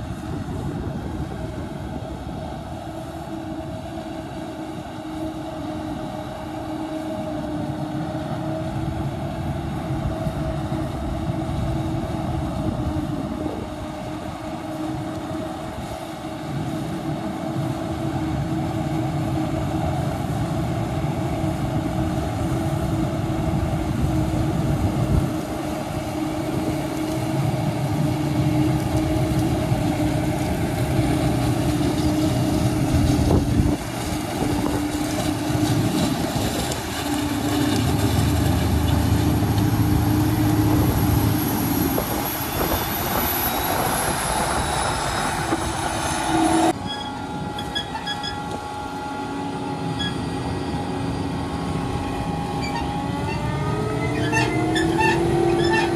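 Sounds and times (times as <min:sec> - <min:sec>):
harvester and tractor droning: 0:00.0 - 0:55.9
wind noise on microphone: 0:00.0 - 0:55.9.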